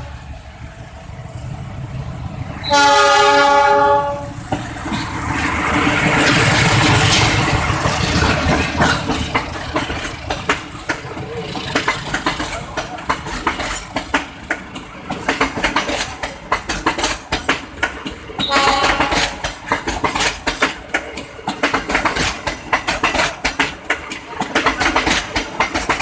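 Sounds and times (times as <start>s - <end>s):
locomotive engine running: 0.0s - 26.0s
train wheels clacking: 2.6s - 26.0s.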